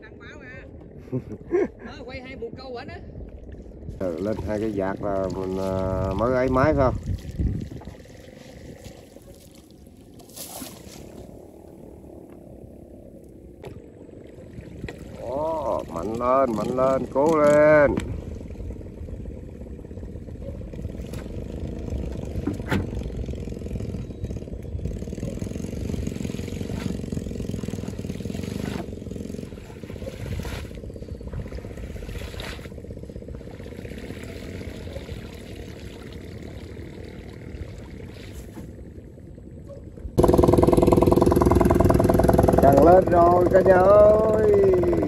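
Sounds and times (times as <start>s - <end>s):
boat engine running: 0.0s - 45.0s
low steady rumble: 0.0s - 45.0s.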